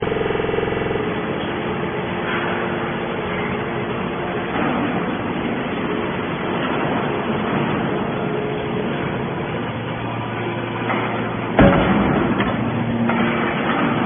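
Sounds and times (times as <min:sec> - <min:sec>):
baler machine running: 0:00.0 - 0:14.0.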